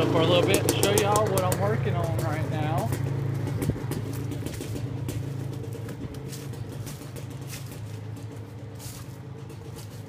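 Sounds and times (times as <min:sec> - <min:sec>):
quad engine idling: 0:00.0 - 0:10.0.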